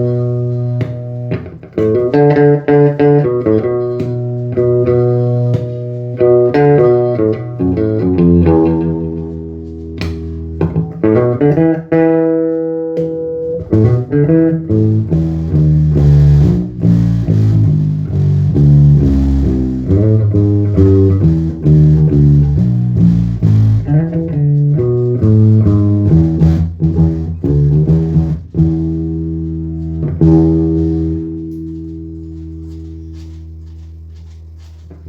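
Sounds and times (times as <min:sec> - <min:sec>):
electric bass plucked notes: 0:00.0 - 0:33.9.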